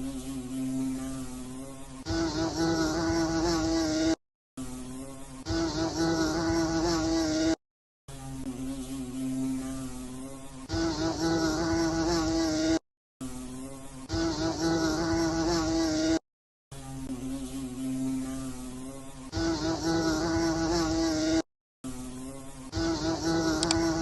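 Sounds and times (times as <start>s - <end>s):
flying insect buzzing: 0.0s - 24.0s.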